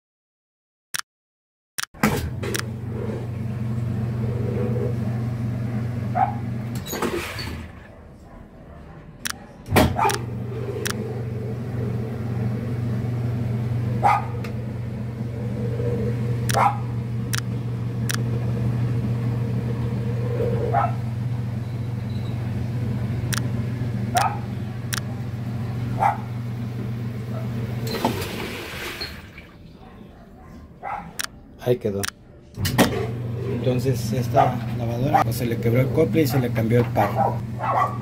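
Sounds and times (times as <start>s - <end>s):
washing machine motor humming: 2.0s - 38.0s.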